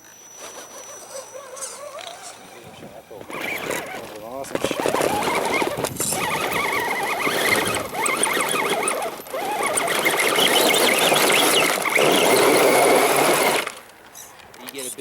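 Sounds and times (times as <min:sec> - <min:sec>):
rc car motor whining: 0:00.0 - 0:13.8.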